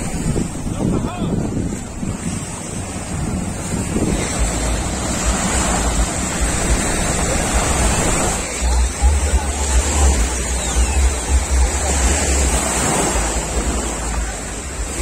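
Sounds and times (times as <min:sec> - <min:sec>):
small waves on sandy shore: 0:00.0 - 0:15.0
wind buffeting microphone: 0:00.0 - 0:15.0.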